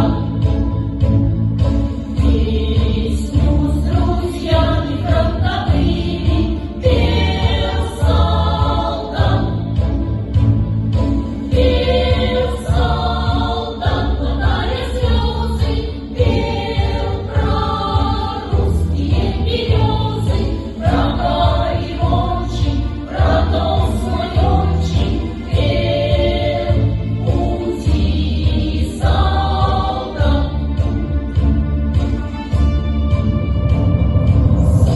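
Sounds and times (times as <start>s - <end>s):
choir singing with instruments: 0.0s - 34.9s.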